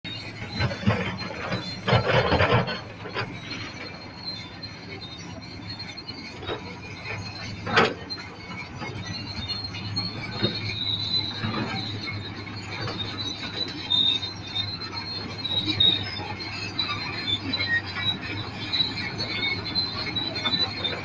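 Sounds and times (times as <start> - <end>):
diesel engine running: 0.1 - 21.0
steel tracks squealing: 0.1 - 21.0.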